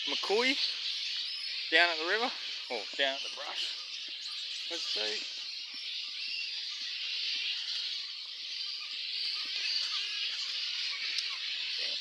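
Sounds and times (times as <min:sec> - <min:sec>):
flying foxes squeaking and chattering: 0:00.0 - 0:12.0.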